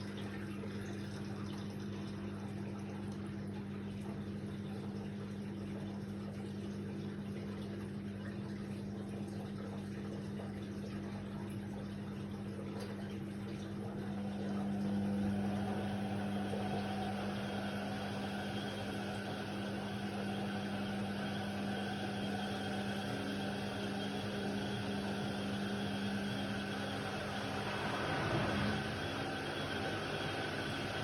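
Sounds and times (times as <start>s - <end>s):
washer-dryer electric hum: 0.0s - 31.0s.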